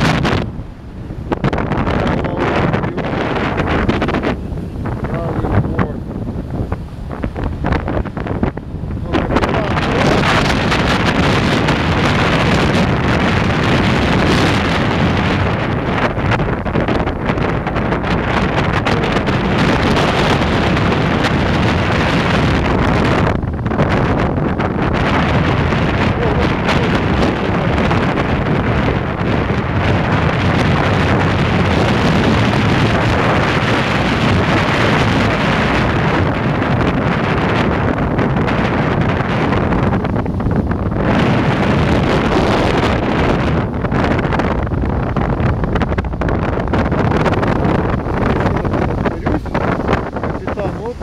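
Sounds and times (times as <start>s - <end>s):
boat engine running: 0.0s - 51.0s
sea rushing along hull: 0.0s - 51.0s
wind buffeting microphone: 0.0s - 51.0s.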